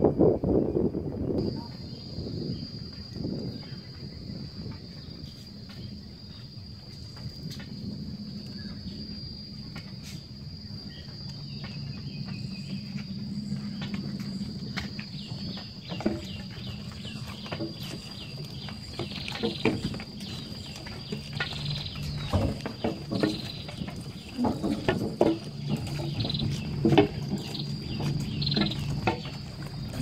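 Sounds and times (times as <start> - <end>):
insects droning high-pitched buzz: 0.0 - 30.0
low background rumble: 0.0 - 30.0.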